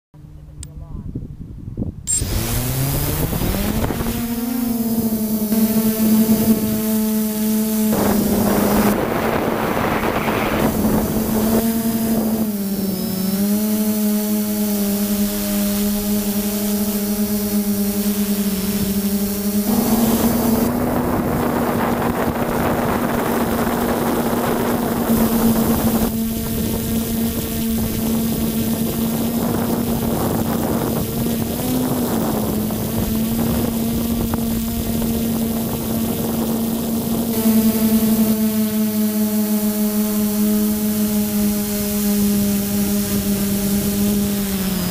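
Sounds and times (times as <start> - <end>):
wind on microphone: 0.7 - 14.0, 14.7 - 38.7
drone motors humming: 2.0 - 44.9.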